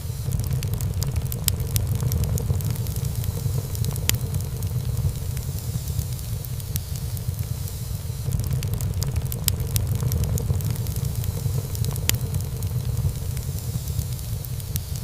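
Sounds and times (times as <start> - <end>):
wood fire crackling and popping: 0.0 - 15.0
low rumble: 0.2 - 7.3, 8.3 - 14.6.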